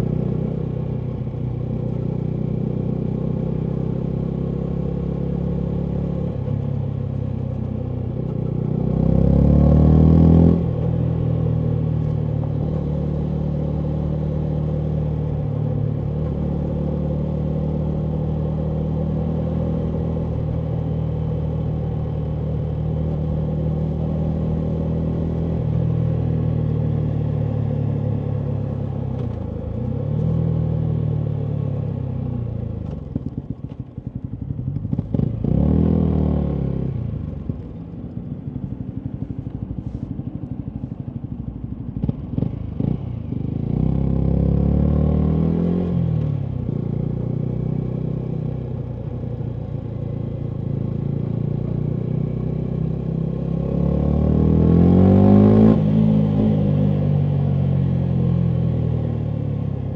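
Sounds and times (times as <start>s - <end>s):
motorcycle engine revving: 8.2s - 40.0s, 41.2s - 59.9s.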